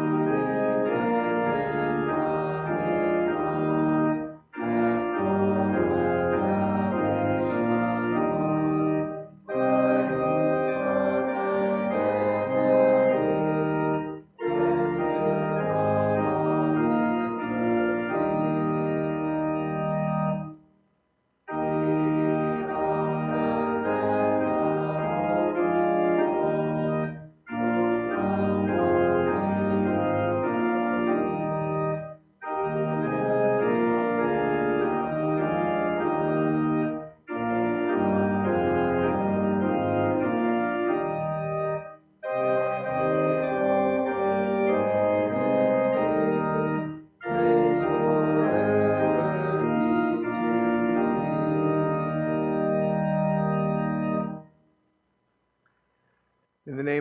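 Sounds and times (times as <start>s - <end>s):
church organ playing a hymn: 0.0s - 20.6s, 21.5s - 54.5s, 56.7s - 57.0s.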